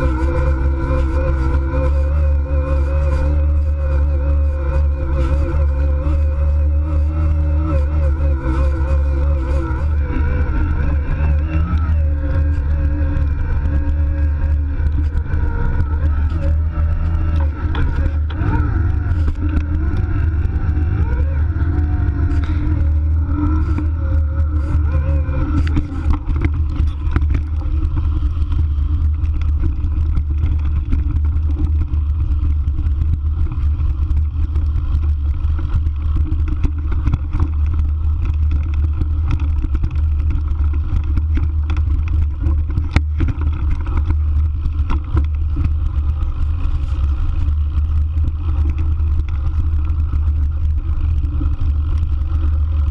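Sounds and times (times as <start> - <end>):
bike rattling over rough ground: 0.0 - 52.9
wind rumble on microphone: 0.0 - 52.9.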